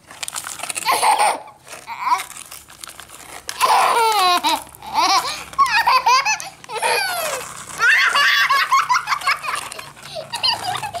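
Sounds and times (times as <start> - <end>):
child laughing and squealing: 0.7 - 2.5, 3.5 - 11.0.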